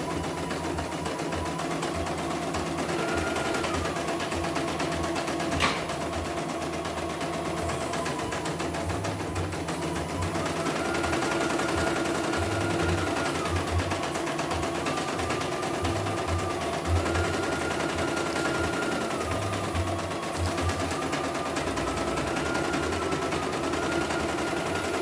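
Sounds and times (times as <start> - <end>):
embroidery machine stitching: 0.0 - 25.0.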